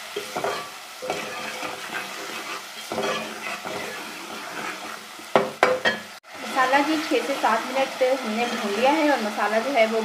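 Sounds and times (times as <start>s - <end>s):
scraping across pan: 0.0s - 6.1s, 7.1s - 9.3s
food sizzling in a pan: 0.0s - 10.0s.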